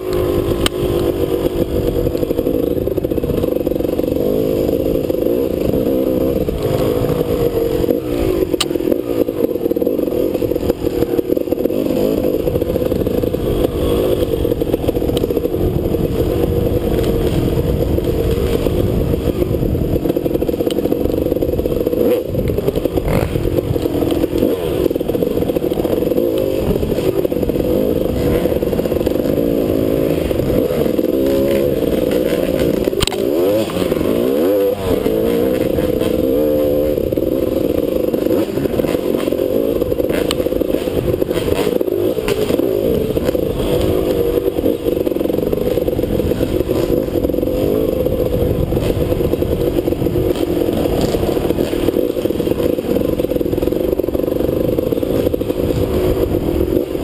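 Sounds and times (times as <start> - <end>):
dirt bike engine revving: 0.0 - 57.0
knocks and clatter over rough ground: 0.0 - 57.0.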